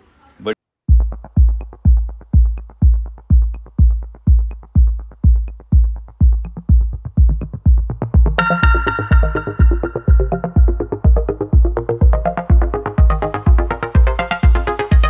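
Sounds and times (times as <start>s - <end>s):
deep kick drum: 0.9s - 15.0s
synth chords: 1.0s - 15.0s.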